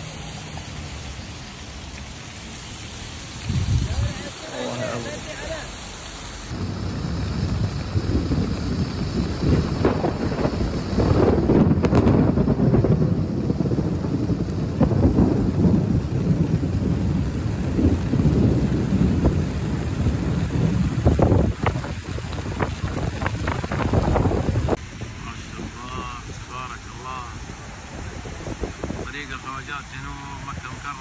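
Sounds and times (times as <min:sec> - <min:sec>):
flood torrent rushing: 0:00.0 - 0:31.0
wind buffeting microphone: 0:03.1 - 0:31.0.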